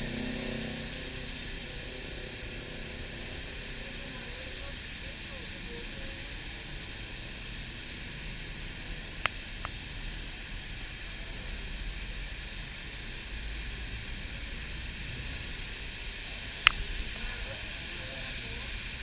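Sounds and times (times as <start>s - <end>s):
bus engine drone: 0.0s - 19.0s
rain and wet road tyre noise: 0.0s - 19.0s.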